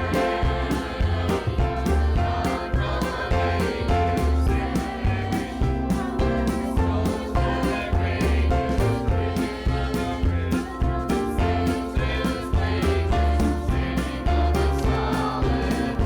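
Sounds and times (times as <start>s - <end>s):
church choir singing: 0.0s - 16.0s
instrumental accompaniment: 0.0s - 16.0s.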